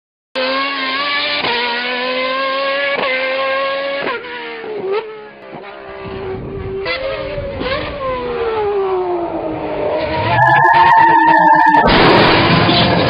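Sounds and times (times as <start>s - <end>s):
go-kart engines revving: 0.4s - 13.0s.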